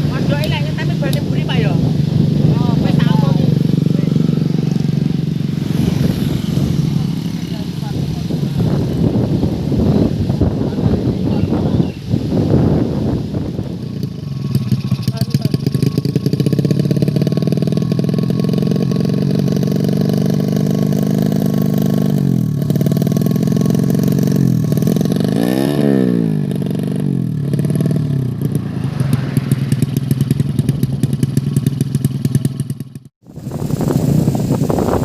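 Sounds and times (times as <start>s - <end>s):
motorbike engine revving: 0.0s - 35.0s.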